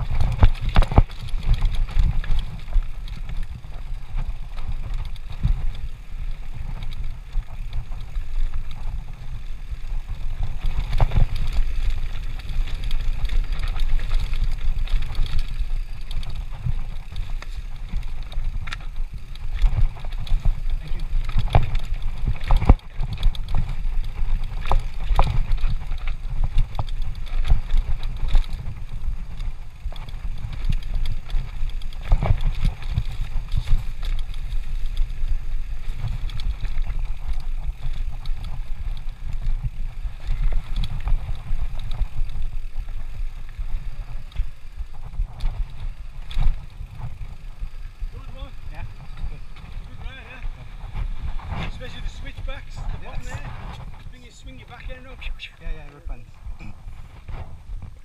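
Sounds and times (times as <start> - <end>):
bike clicks and rattles: 0.0 - 58.0
wind and tyres on dirt: 0.0 - 58.0.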